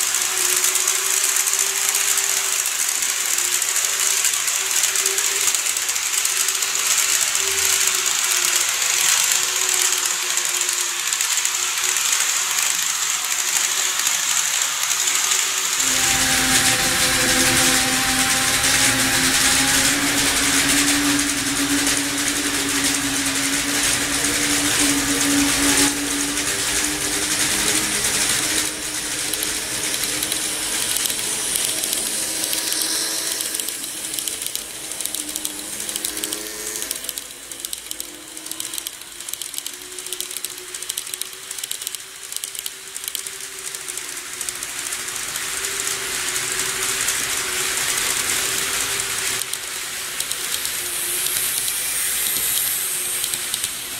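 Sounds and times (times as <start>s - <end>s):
electric motor hum: 0.0s - 53.9s
model train wheels rattling on rails: 0.0s - 53.9s.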